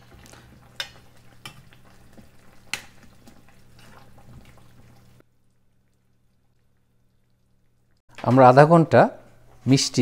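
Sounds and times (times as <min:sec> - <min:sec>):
faint syrup sizzle: 0:00.0 - 0:08.0.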